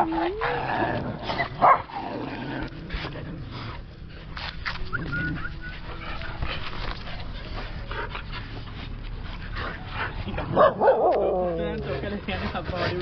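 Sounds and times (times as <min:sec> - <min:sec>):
dogs whimpering and yipping: 0:00.0 - 0:01.9, 0:02.9 - 0:12.7.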